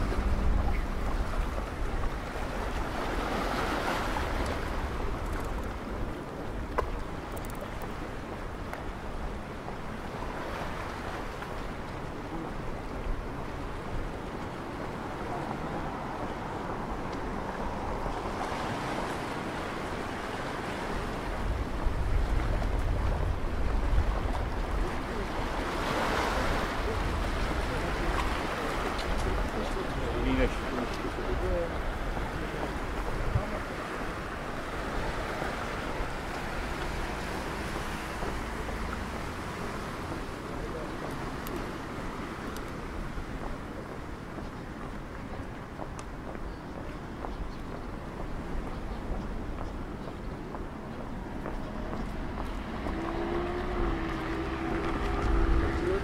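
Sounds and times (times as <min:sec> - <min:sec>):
waves washing over rocks: 0:00.0 - 0:46.4, 0:50.5 - 0:56.0
wind buffeting microphone: 0:00.0 - 0:56.0.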